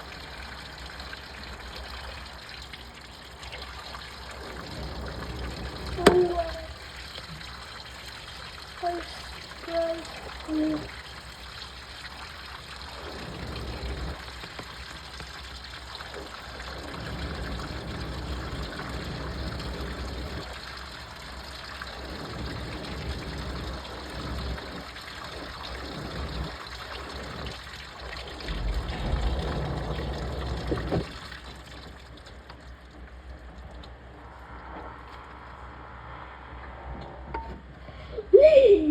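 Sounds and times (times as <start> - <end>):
washing machine rumble: 0.0 - 35.6
water sloshing in washing machine: 0.0 - 35.7.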